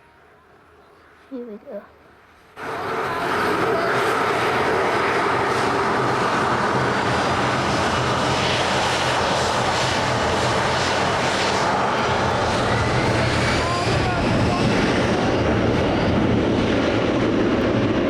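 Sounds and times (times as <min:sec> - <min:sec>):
jet engines roaring: 0:02.1 - 0:18.0.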